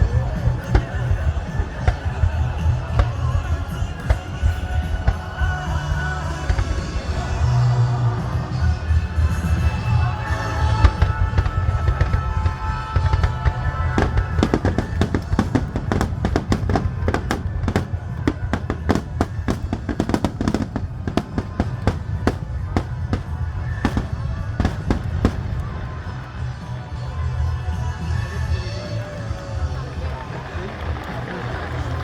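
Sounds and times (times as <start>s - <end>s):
fireworks crackling: 0.0s - 32.0s
music playing: 0.0s - 32.0s.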